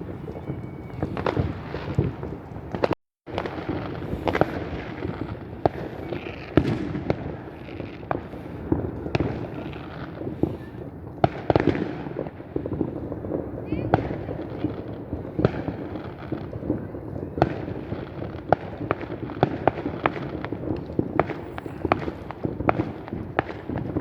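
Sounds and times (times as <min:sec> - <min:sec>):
fireworks bangs and pops: 0:00.0 - 0:24.0
fireworks crackle: 0:00.0 - 0:24.0.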